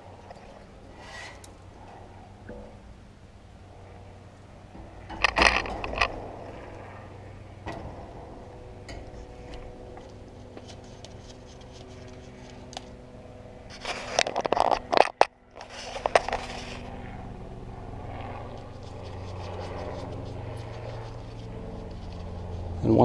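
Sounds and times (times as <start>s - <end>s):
fan grille scraping and rattling: 0.0s - 23.0s
steady low hum: 0.0s - 23.0s.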